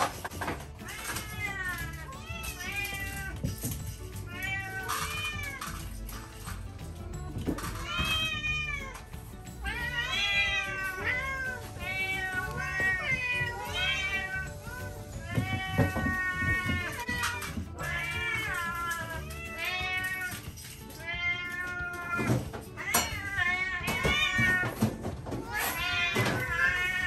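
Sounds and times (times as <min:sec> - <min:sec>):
cats meowing: 0:00.4 - 0:27.0.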